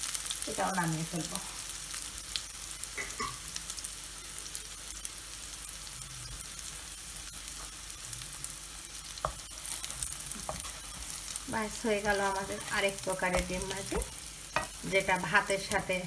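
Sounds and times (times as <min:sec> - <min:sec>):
omelette sizzling in oil: 0:00.0 - 0:16.0.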